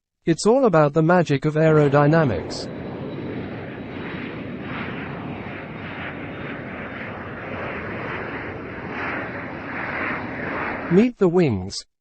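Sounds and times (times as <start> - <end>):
airplane engines drone: 1.4 - 11.6.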